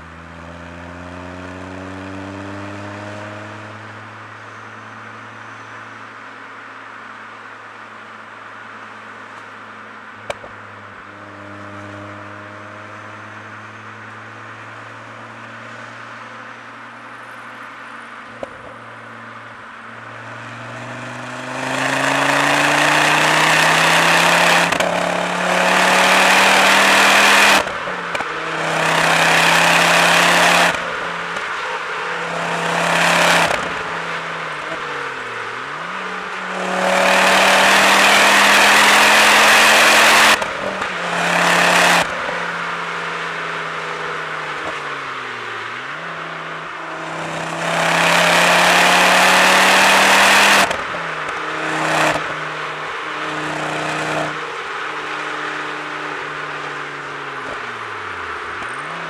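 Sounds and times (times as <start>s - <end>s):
car engine accelerating: 10.2s - 59.0s.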